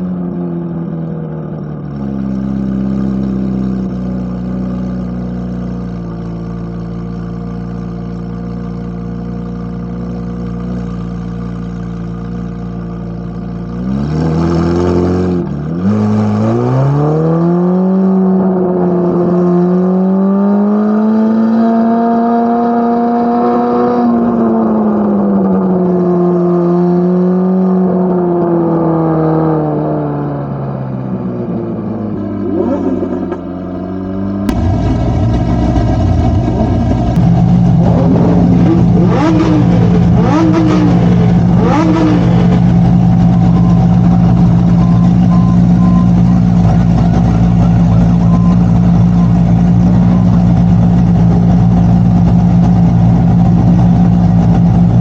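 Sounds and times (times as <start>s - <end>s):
sports car engine exhaust: 0.0s - 55.0s.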